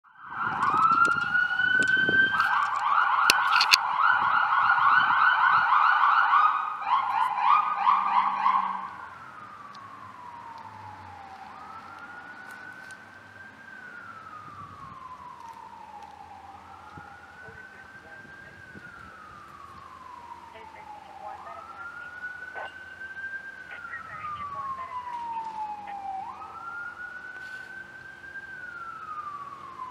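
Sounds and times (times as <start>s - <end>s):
distant siren wailing: 0.0s - 29.9s
police siren wailing and yelping: 0.0s - 29.9s.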